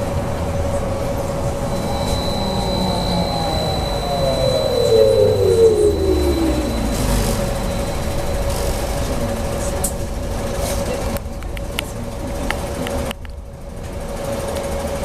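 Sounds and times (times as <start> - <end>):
steady electrical hum: 0.0 - 12.5.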